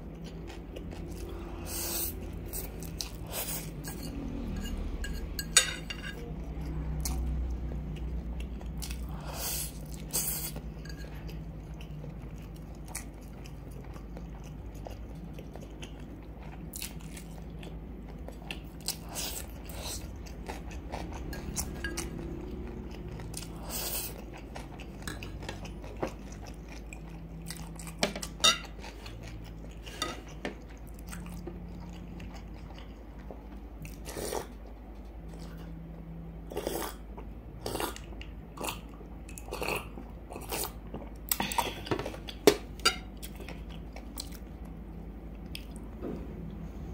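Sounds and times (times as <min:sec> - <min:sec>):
chewing and crunching: 0:00.0 - 0:05.2, 0:06.1 - 0:45.9
low steady hum: 0:00.0 - 0:46.9.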